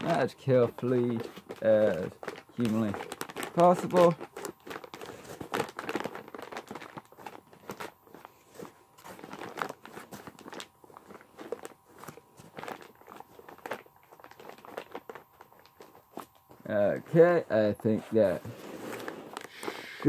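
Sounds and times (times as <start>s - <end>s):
foam crunching and scraping: 0.0s - 20.0s.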